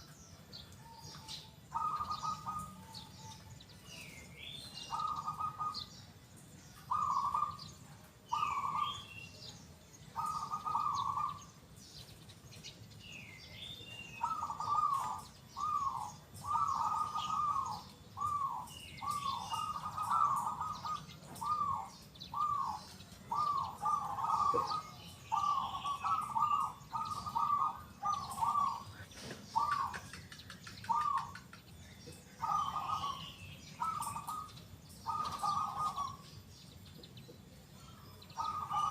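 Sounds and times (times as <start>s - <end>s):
small birds chirping: 0.0s - 38.9s
dove cooing: 0.9s - 6.0s, 6.8s - 9.1s, 10.1s - 11.6s, 14.1s - 31.6s, 32.3s - 36.4s, 37.8s - 38.9s.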